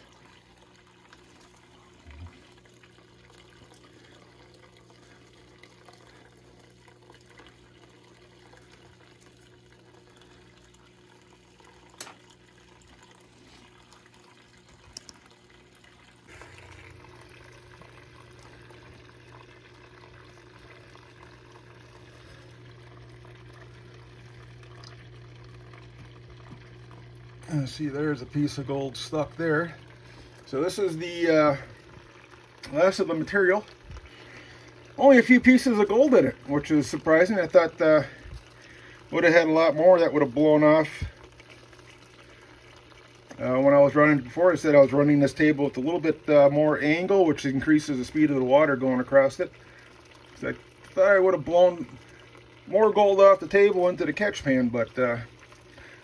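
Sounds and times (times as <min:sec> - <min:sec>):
steady low hum: 0:00.0 - 0:56.0
water stream spilling into tub: 0:00.0 - 0:56.0.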